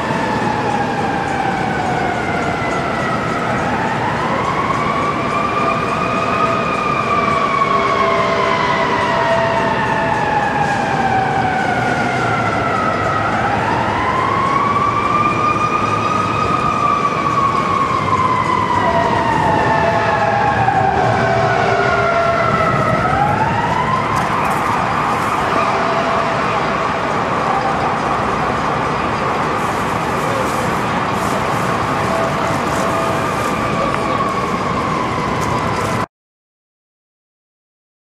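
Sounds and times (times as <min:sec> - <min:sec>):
emergency vehicle siren wailing: 0:00.0 - 0:36.1
traffic noise: 0:00.0 - 0:36.1.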